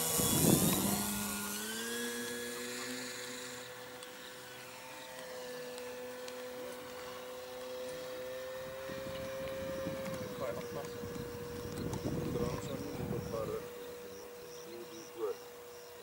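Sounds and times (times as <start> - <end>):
model plane propeller whine: 0.0 - 16.0.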